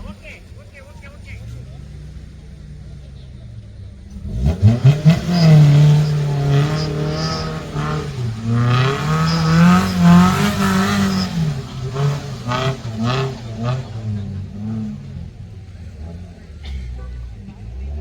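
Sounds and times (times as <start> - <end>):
vehicle engine revving hard: 0.0 - 18.0.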